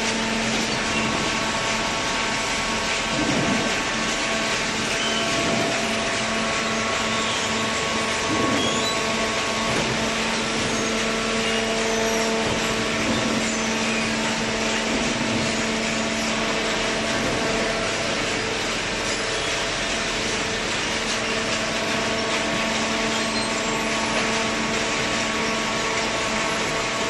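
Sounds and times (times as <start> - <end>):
hydraulic power unit droning: 0.0 - 27.0.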